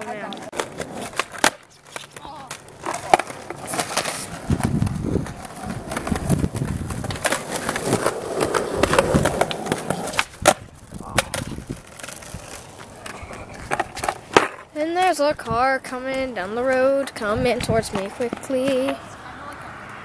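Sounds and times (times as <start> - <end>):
skateboard clacking on concrete: 0.0 - 20.0
skateboard wheels rolling on concrete: 0.0 - 20.0.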